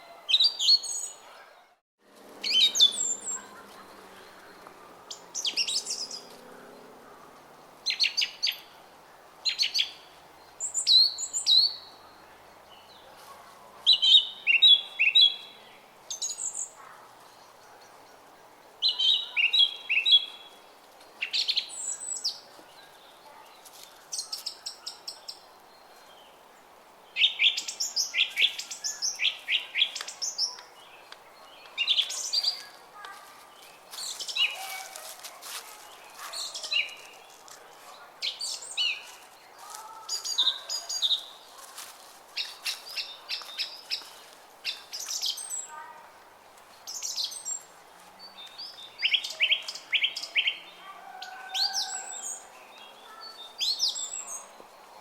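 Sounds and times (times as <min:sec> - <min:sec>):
songbirds chirping and singing: 0:02.4 - 0:08.7, 0:13.9 - 0:45.9, 0:46.7 - 0:55.0.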